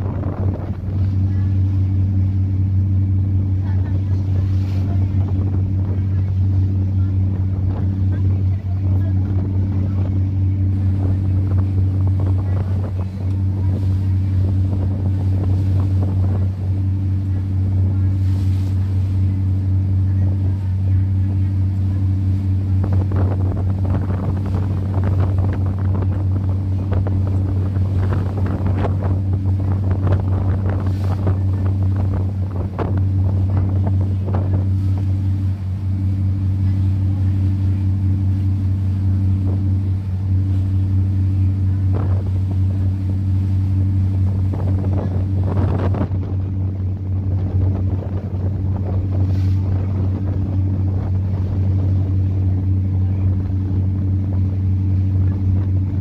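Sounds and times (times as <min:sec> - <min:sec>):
boat engine droning: 0:00.0 - 0:56.0
wind buffeting microphone: 0:00.0 - 0:56.0.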